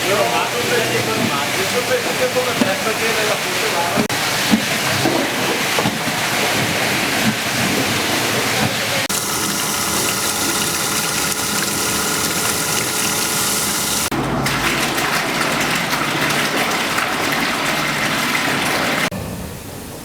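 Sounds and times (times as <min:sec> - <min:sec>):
machinery noise: 0:00.0 - 0:19.1.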